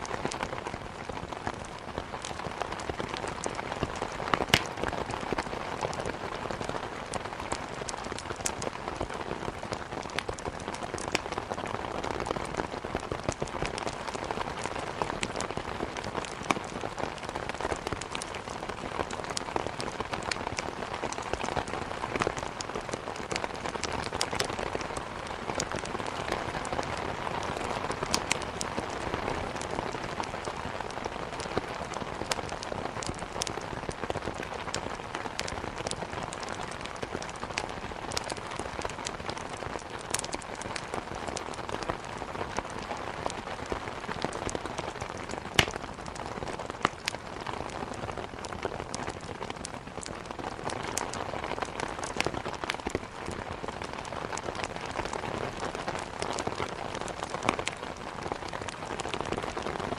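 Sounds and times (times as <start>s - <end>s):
rain against a window: 0.0s - 59.9s
wood fire crackling and popping: 0.0s - 59.9s.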